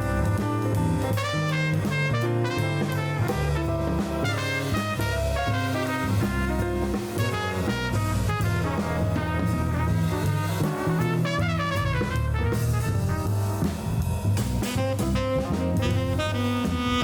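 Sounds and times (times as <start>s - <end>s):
jazz music with brass: 0.0s - 17.0s.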